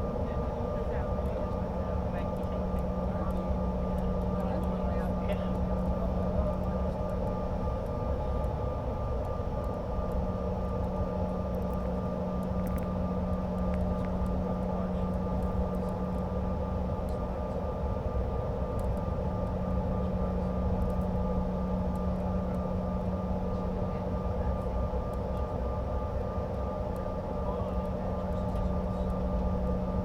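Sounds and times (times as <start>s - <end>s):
jet engine cabin drone: 0.0s - 30.0s.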